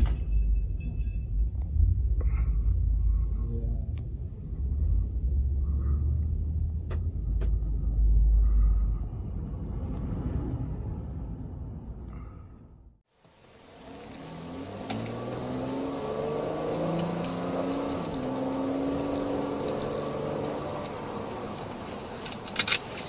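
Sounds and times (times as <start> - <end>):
car rumbling on the move: 0.0 - 23.0.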